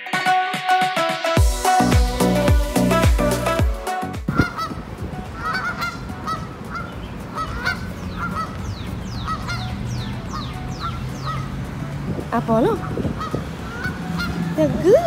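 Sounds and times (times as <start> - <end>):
electronic background music: 0.0 - 15.0
geese honking: 1.7 - 11.6, 12.4 - 15.0.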